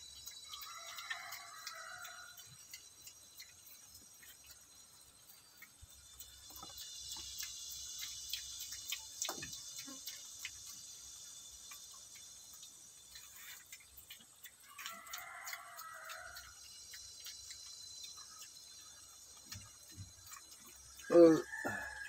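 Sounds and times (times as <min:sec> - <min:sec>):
piglets crunching feed: 0:00.0 - 0:22.0.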